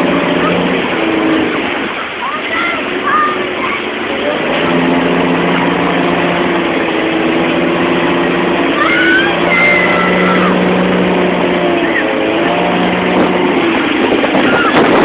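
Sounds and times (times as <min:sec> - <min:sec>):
motorboat engine running: 0:00.0 - 0:15.0
wake water rushing: 0:00.0 - 0:15.0
wind: 0:00.0 - 0:15.0.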